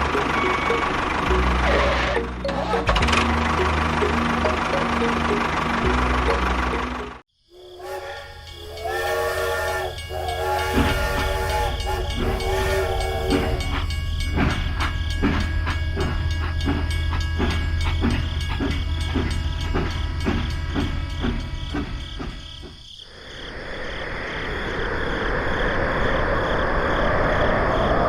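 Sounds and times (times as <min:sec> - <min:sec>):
small machine humming and clacking: 0:00.0 - 0:23.0.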